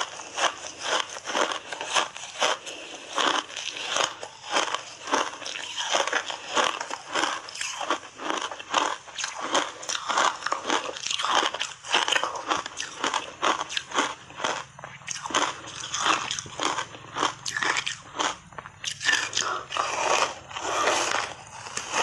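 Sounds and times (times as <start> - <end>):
chewing crunchy ice: 0.0 - 22.0.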